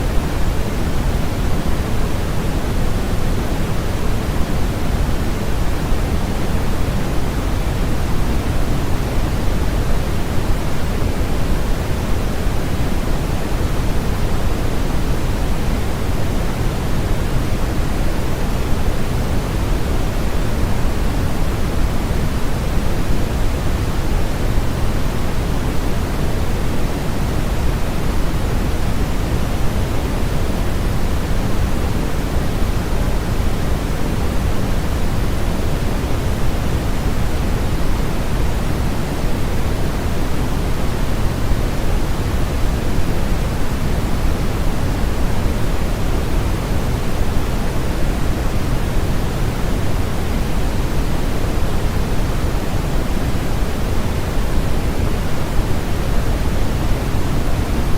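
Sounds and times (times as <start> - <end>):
steady pink noise hiss: 0.0 - 57.9.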